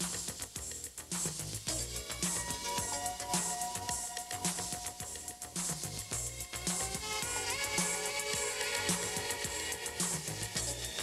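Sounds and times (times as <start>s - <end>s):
instrumental music with drum beat: 0.0s - 11.0s.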